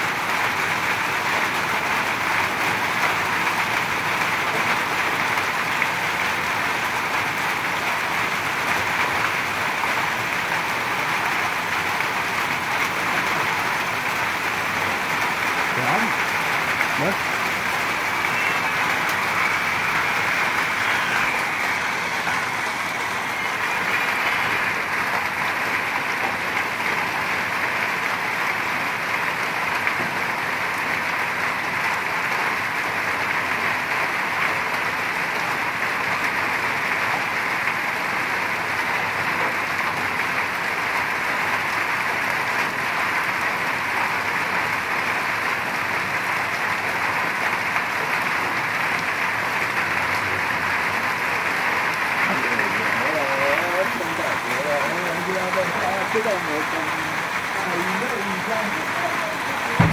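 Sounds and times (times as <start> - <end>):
heavy rain pouring: 0.0 - 59.9
water running off in streams: 0.0 - 59.9.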